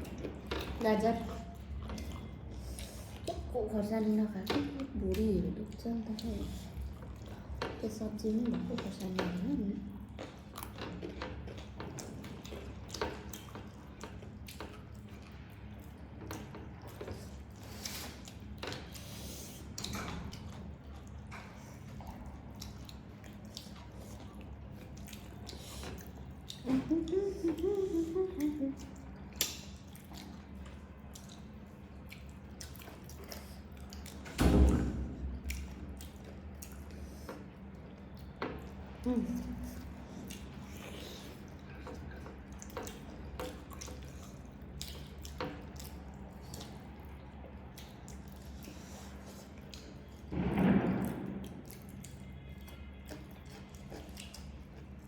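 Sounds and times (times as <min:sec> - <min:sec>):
people eating wet clicks: 0:00.0 - 0:55.0.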